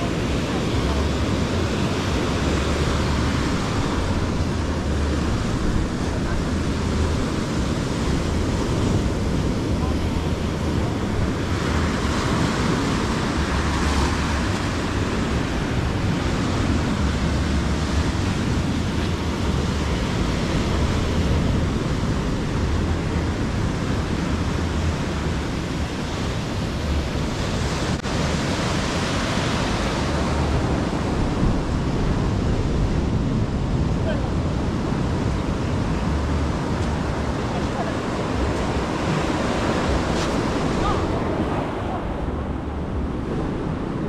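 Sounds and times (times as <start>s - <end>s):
wind on microphone: 0.0s - 44.0s.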